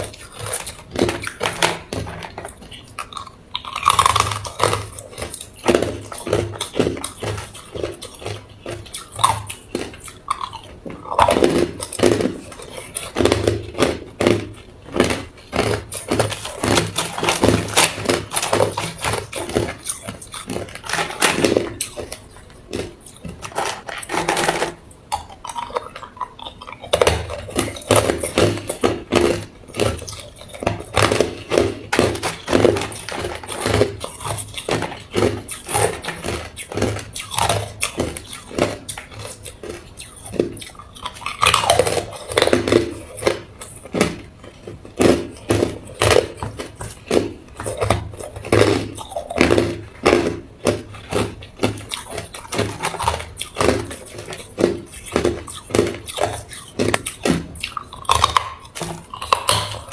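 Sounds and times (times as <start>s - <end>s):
ice cubes crunching in mouth: 0.0s - 59.9s.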